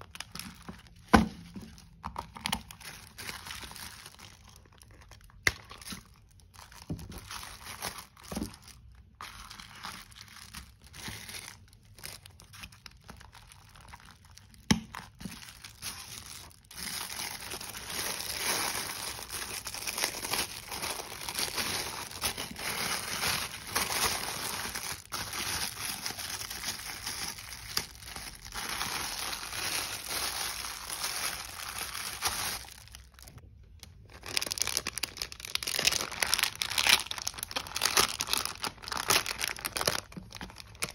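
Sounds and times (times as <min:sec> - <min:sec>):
plastic packaging crinkling: 0:00.0 - 0:40.9.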